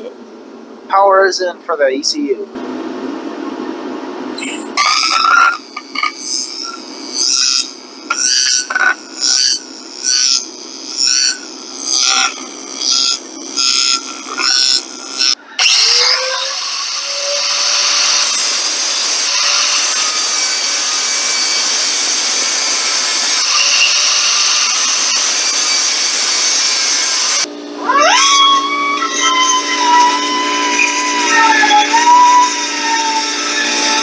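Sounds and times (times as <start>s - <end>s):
power grinder grinding metal: 4.4s - 34.0s.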